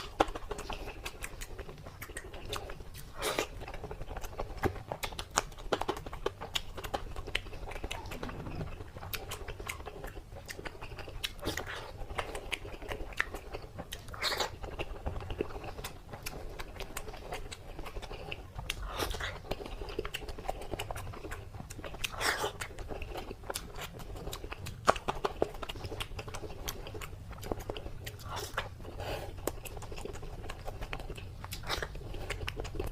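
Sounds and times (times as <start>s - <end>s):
chewing crispy food: 0.0s - 32.9s.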